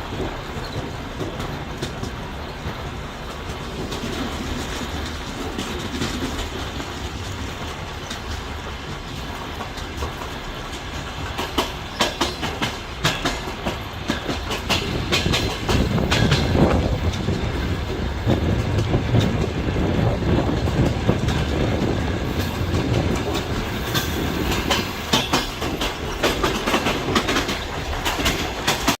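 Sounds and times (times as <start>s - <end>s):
train wheels rumbling on rails: 0.0s - 29.0s
wheels clicking over rail joints: 0.0s - 29.0s.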